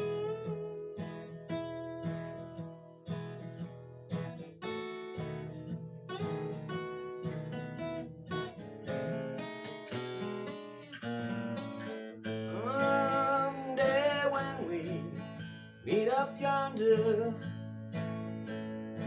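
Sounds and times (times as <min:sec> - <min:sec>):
acoustic guitar strummed and picked: 0:00.0 - 0:19.0.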